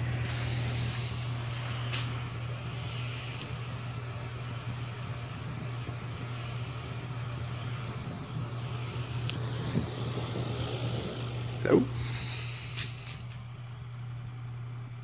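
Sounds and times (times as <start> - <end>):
fan air rushing: 0.0 - 15.0
fan motor hum: 0.0 - 15.0.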